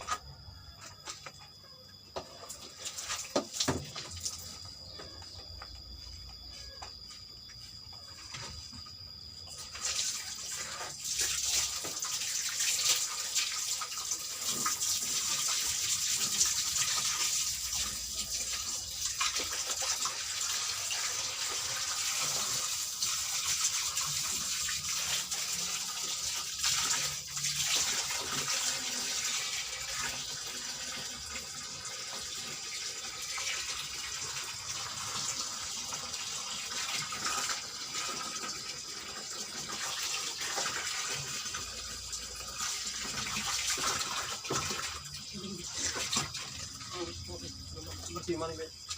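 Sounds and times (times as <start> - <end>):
water gushing in washing machine: 2.1 - 5.1, 9.4 - 48.9.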